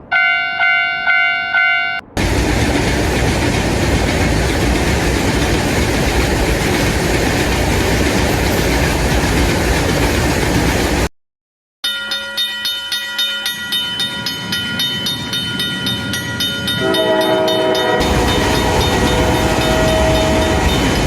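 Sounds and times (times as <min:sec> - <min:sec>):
train passing with rail noise: 0:00.0 - 0:11.1, 0:11.9 - 0:21.0.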